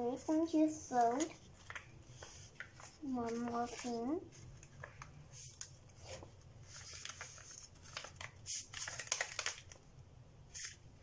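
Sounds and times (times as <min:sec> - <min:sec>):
paper and cardboard rustling: 0:00.0 - 0:09.8.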